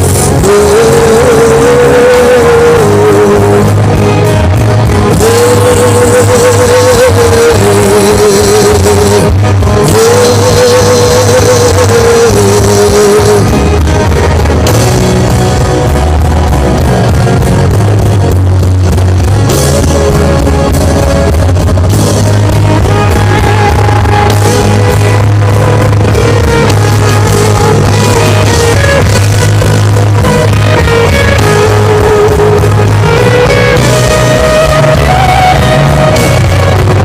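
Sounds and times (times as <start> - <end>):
worship band music: 0.0 - 37.0.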